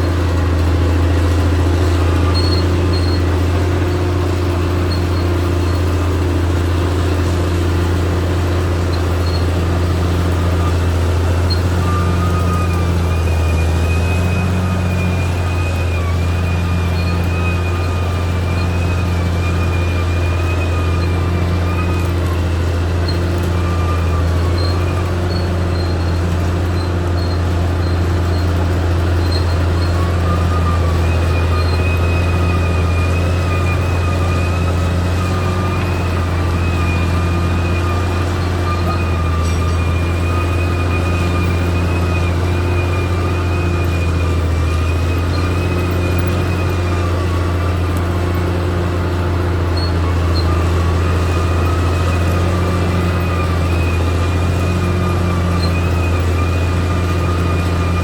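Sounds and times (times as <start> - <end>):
bulldozer diesel engine drone: 0.0 - 58.0
thin wavering whine: 0.0 - 58.0.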